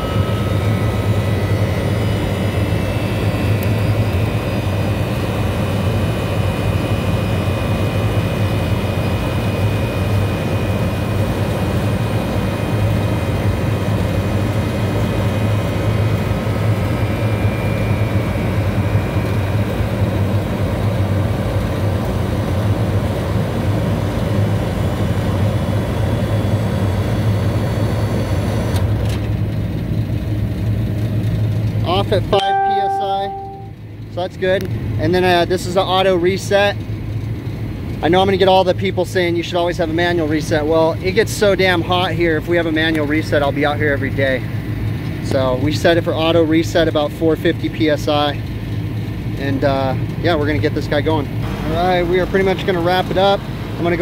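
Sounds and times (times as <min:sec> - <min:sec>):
condensing unit low hum: 0:00.0 - 0:54.0.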